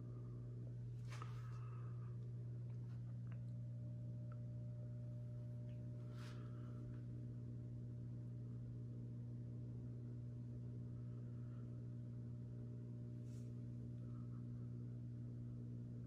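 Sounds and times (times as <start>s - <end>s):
aquarium pumps humming: 0.0s - 16.0s.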